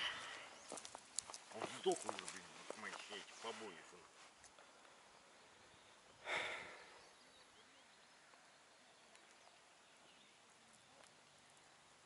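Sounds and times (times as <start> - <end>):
distant bird chirps: 0.0 - 12.0.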